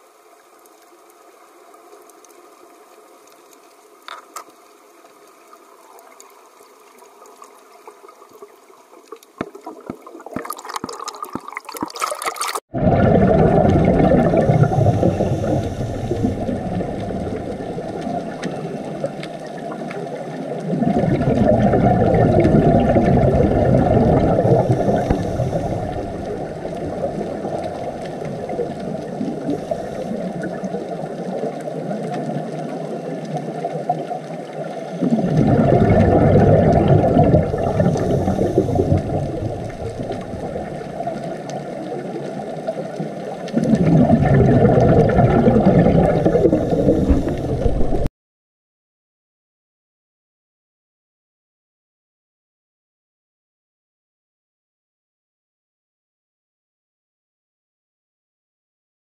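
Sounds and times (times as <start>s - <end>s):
underwater hiss and clicks: 0.0s - 48.1s
underwater rushing and gurgling: 0.0s - 48.1s.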